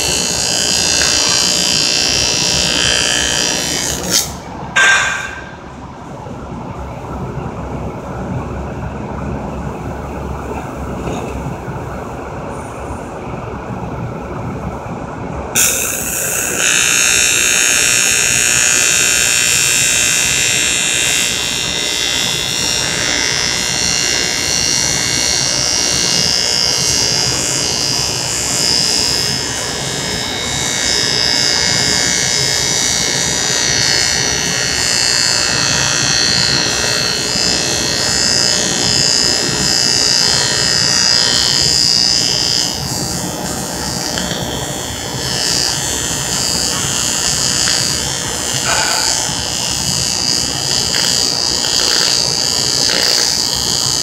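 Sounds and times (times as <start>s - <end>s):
welding arc hissing: 0.0s - 5.5s, 15.6s - 54.0s.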